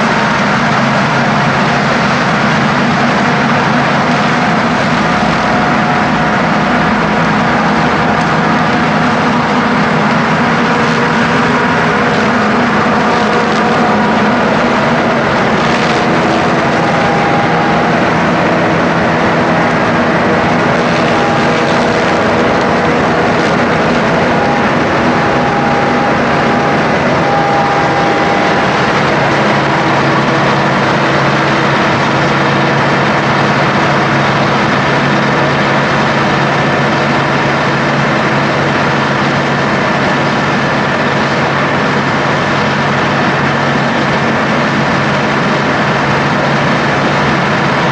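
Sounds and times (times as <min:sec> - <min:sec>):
diesel farm machinery running: 0:00.0 - 0:47.9.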